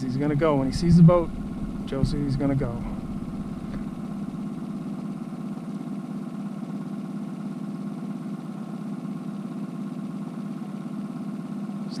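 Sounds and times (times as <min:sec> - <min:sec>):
outboard motor idling: 0:00.0 - 0:11.8.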